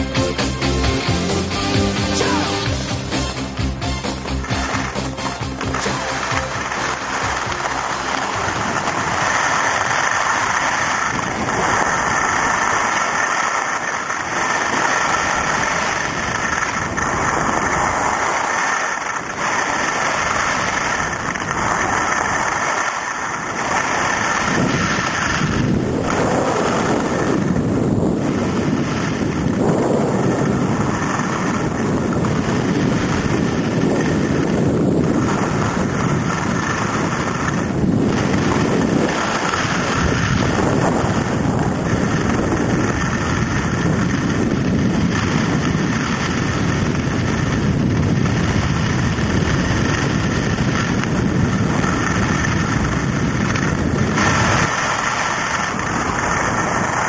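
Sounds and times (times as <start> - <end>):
skis scraping over snow: 0.7 - 57.0
wind on microphone: 0.9 - 57.0.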